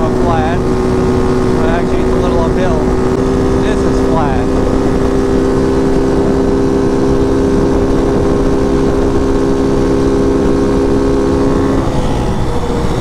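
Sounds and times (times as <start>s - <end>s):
motorcycle engine droning: 0.0s - 13.0s
wind rumble on microphone: 0.0s - 13.0s.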